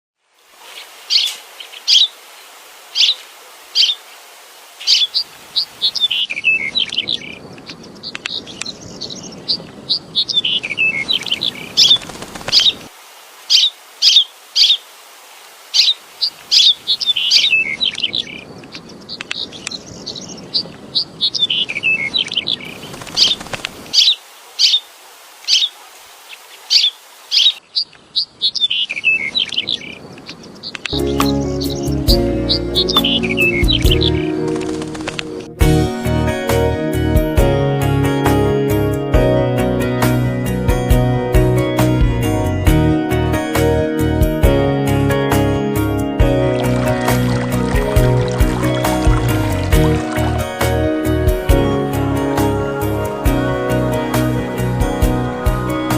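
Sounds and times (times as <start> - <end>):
songbirds chirping: 0.6 - 35.6, 45.8 - 55.9.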